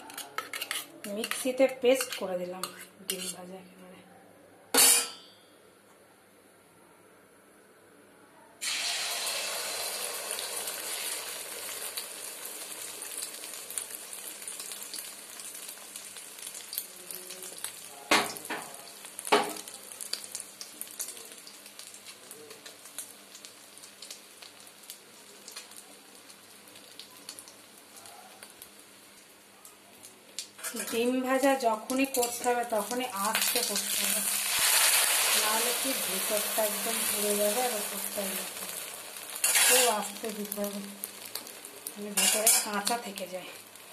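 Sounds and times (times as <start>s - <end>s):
egg sizzling in hot oil: 0.0s - 3.4s, 8.6s - 43.9s.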